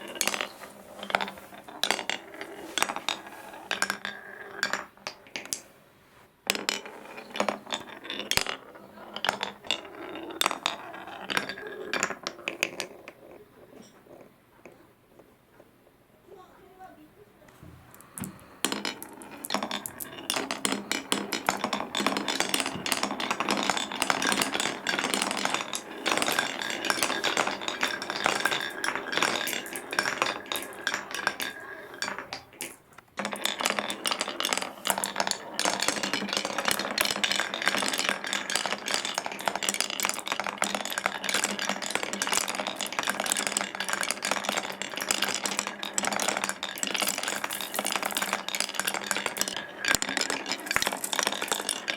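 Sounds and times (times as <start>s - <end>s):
marbles clattering down wooden run: 0.0s - 5.6s, 6.5s - 14.3s, 17.9s - 51.9s.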